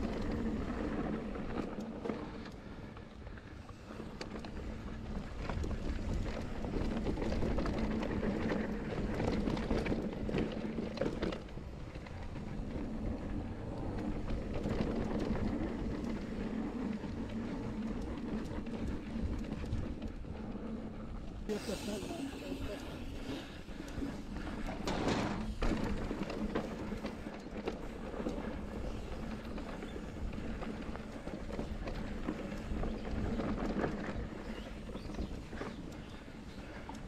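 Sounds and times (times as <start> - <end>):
bike clicks and rattles: 0.0 - 37.0
bike tyres rumbling on dirt: 0.0 - 37.0.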